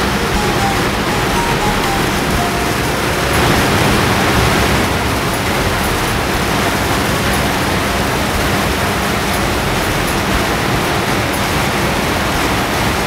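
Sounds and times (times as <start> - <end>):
water rushing over spillway: 0.0 - 13.0.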